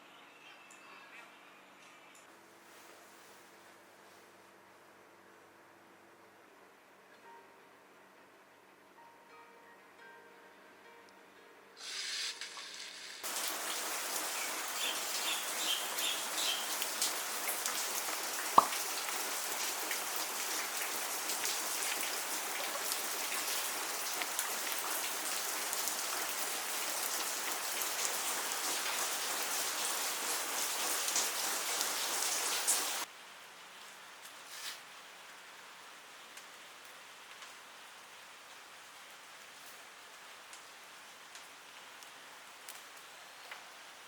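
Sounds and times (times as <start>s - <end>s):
steady rain hiss: 2.3s - 6.3s, 11.8s - 44.0s.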